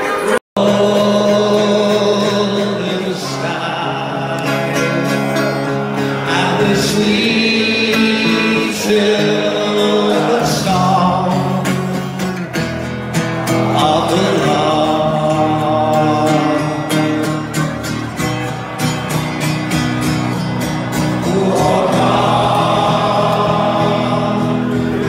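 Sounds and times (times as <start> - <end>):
crowd singing along: 0.0 - 25.0
music: 0.6 - 25.0.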